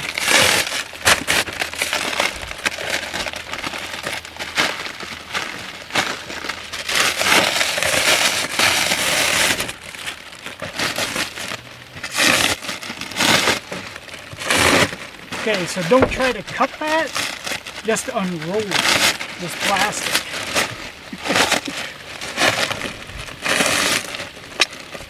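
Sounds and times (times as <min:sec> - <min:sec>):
plastic wrapping crinkling: 0:00.0 - 0:25.0.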